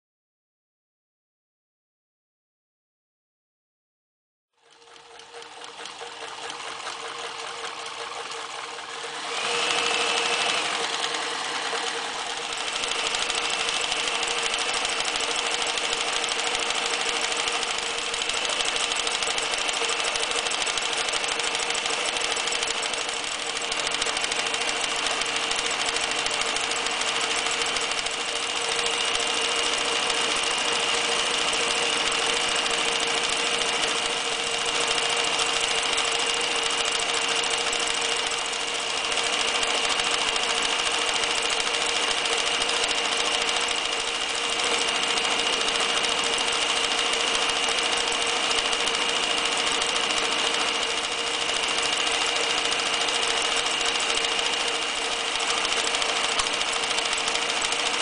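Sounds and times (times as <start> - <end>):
sewing machine running: 4.6 - 58.0.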